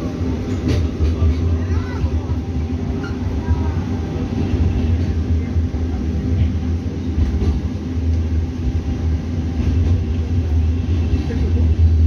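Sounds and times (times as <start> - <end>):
tram low rumble: 0.0 - 12.0.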